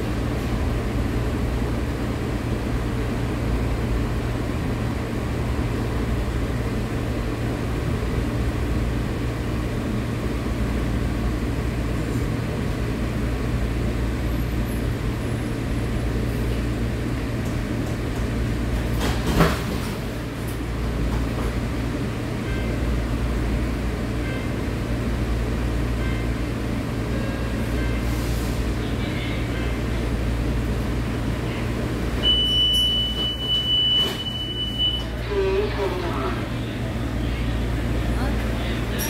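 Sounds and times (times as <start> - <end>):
light rail rumble and hum: 0.0 - 39.0.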